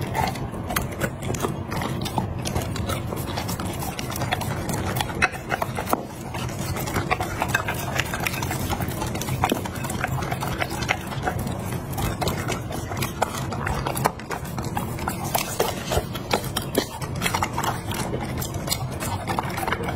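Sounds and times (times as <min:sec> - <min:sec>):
dog chewing and lapping: 0:00.0 - 0:19.9.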